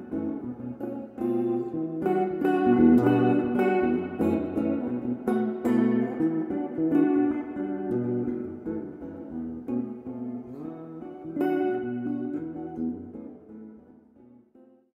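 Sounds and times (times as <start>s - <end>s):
plucked guitar music: 0.0s - 14.9s.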